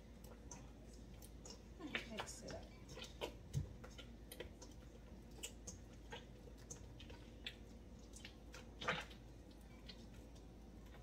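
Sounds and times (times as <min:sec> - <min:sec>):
dough kneading squishes: 0:00.0 - 0:11.0.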